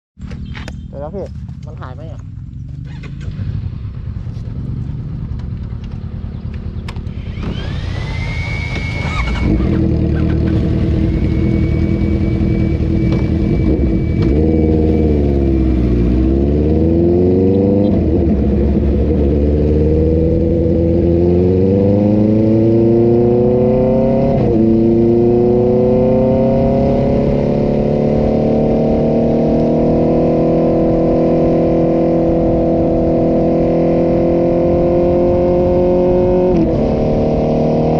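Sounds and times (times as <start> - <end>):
motorcycle engine revving through gears: 0.2 - 37.9.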